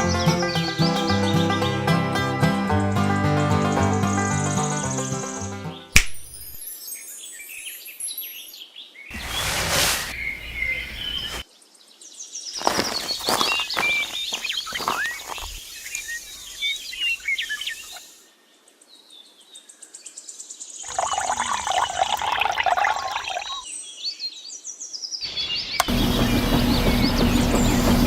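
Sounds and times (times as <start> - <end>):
small birds chirping: 2.9 - 18.4, 19.0 - 28.0.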